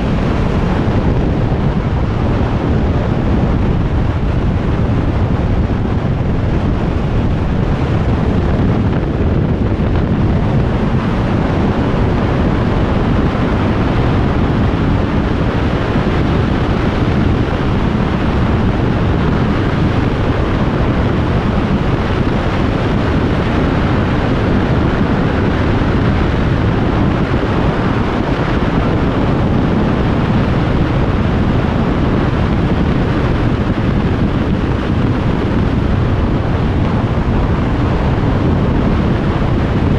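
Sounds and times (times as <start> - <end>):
motorcycle running: 0.0 - 39.9
road noise: 0.0 - 39.9
wind rush over microphone: 0.0 - 39.9.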